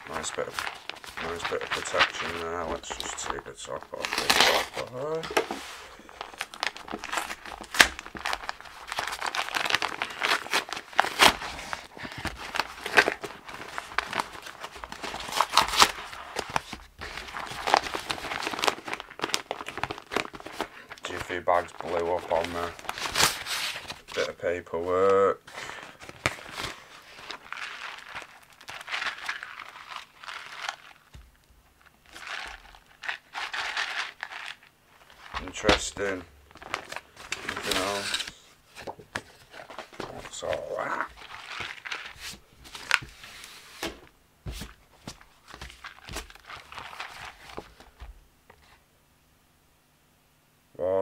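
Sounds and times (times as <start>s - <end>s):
paper envelope tearing and crinkling: 0.0s - 24.3s, 25.6s - 31.2s, 31.8s - 44.0s, 44.6s - 48.0s.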